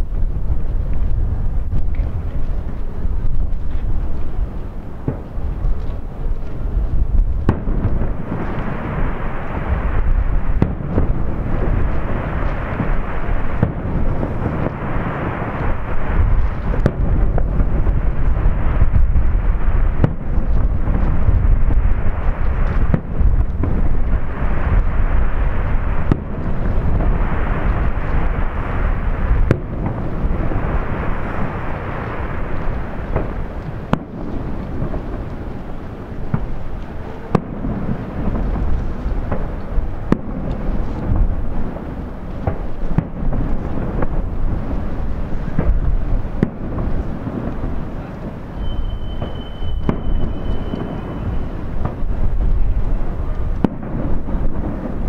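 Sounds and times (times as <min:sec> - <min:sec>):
continuous low rumble: 0:00.0 - 0:55.0
fireworks booming: 0:00.0 - 0:55.0
sharp firework bangs: 0:05.0 - 0:55.0.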